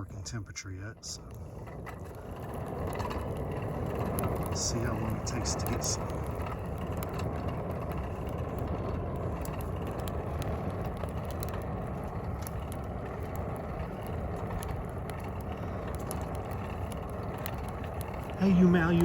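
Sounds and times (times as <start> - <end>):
fire burning with low rush: 0.0 - 19.0
fire crackles and pops: 0.0 - 19.0.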